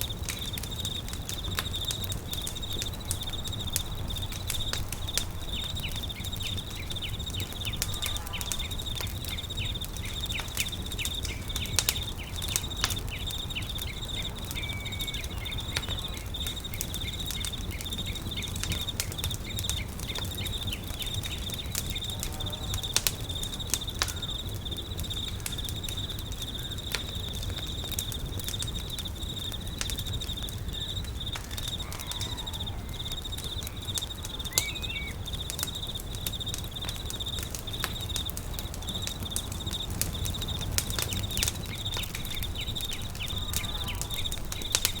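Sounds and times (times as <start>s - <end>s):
campfire crackling and popping: 0.0s - 45.0s
bird-like chirps: 0.4s - 24.5s, 28.9s - 38.2s, 38.8s - 45.0s.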